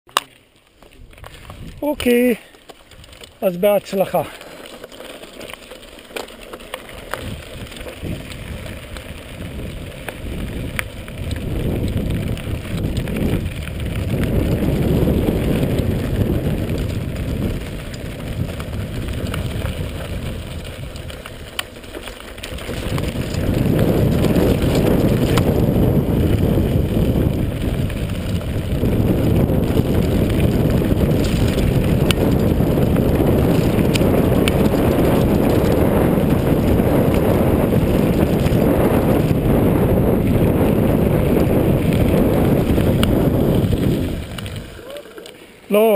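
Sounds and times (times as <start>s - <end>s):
bike clicks and rattles: 0.1s - 45.9s
bike tyres rolling on gravel: 0.1s - 45.9s
wind on microphone: 1.0s - 2.3s, 7.2s - 21.5s, 22.5s - 45.0s.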